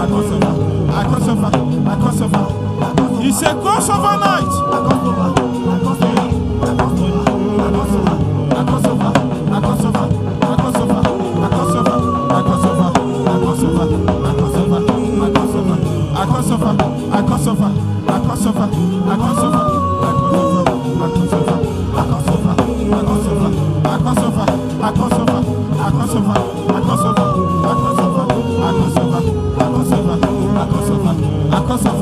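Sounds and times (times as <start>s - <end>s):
instrumental worship music: 0.0s - 32.0s
steady drum beat: 0.0s - 32.0s.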